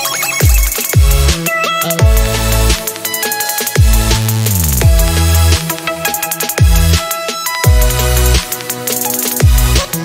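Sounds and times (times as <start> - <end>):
music with heavy bass and drums: 0.0 - 10.0.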